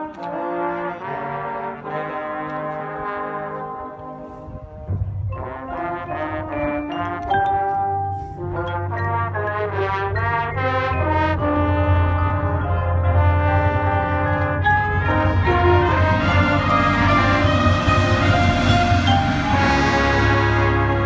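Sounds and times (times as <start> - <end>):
marching band brass chords: 0.0 - 21.0.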